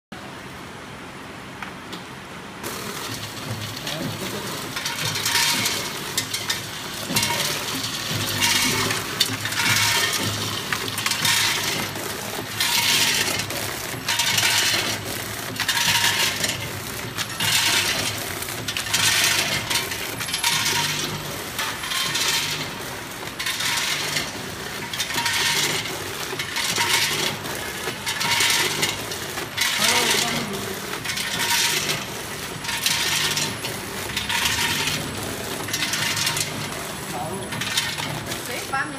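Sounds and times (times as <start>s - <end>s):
popcorn rattling into bags: 2.7s - 38.8s.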